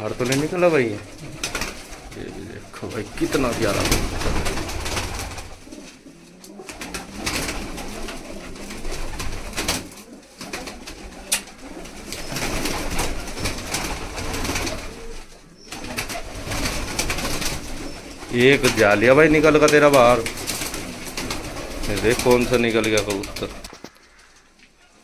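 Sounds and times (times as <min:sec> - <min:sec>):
pigeons cooing: 0:00.0 - 0:25.0
wings flapping: 0:00.0 - 0:25.0.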